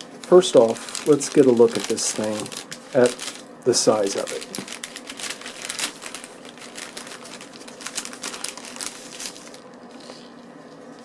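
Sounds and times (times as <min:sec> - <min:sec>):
paper wrapper crinkling: 0:00.0 - 0:10.2.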